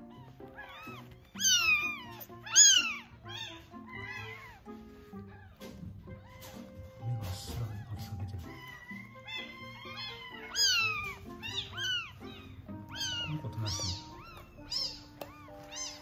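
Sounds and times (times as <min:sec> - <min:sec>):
background music: 0:00.0 - 0:16.0
kittens crying: 0:00.0 - 0:16.0.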